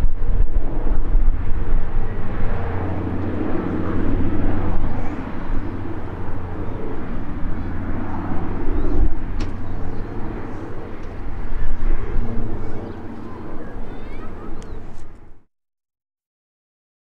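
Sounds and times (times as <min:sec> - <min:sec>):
propeller aircraft engine drone: 0:00.0 - 0:15.5.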